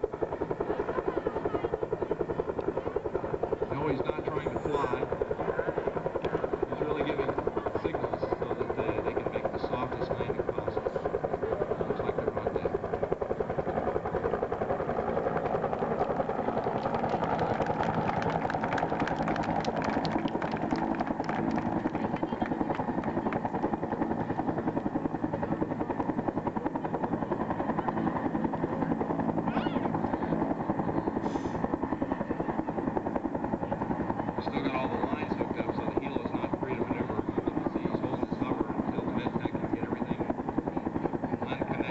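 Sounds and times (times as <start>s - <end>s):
helicopter rotor chopping: 0.0s - 41.9s.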